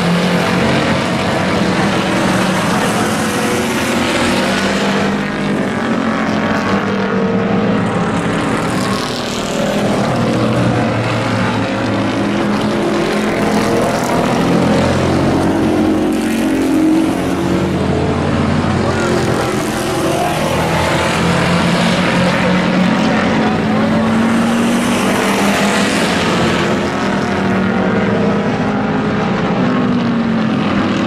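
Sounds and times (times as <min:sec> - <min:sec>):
racing truck engines: 0:00.0 - 0:31.0.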